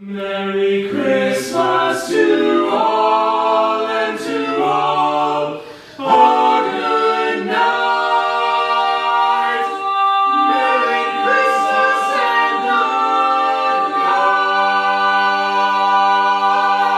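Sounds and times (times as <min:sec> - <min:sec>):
male vocal quartet singing a cappella: 0:00.0 - 0:16.9.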